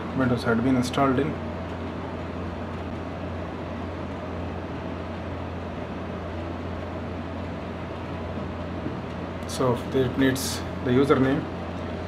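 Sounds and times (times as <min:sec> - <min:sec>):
fan noise: 0:00.0 - 0:12.0.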